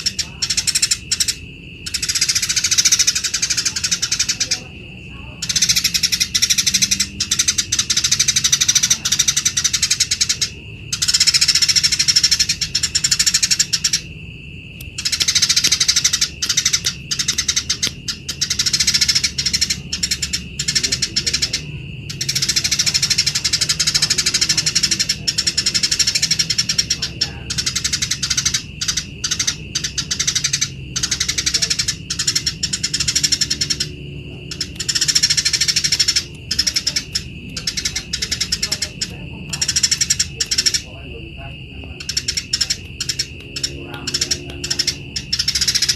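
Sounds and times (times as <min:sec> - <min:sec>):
sparrows chattering harshly: 0:00.0 - 0:45.9.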